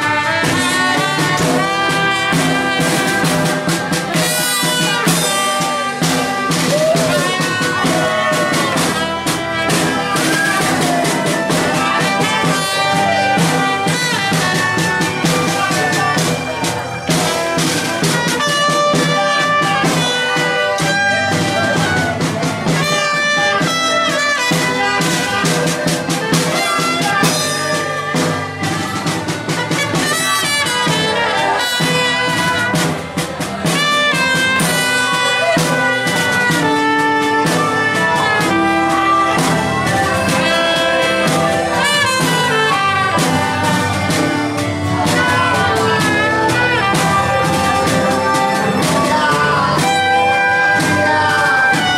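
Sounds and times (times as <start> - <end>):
live band music: 0.0 - 51.9
steady drum beat: 0.0 - 51.9
sustained melody notes: 0.0 - 51.9.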